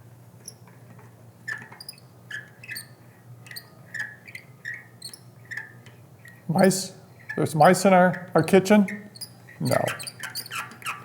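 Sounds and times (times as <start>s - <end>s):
bicycle skewer squeaking: 1.4s - 6.5s, 7.1s - 11.0s.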